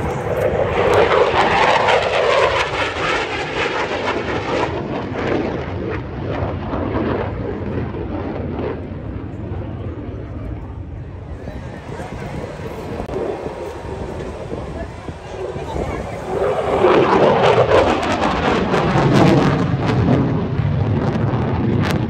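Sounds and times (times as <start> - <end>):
fighter jet flying past: 0.0 - 22.0.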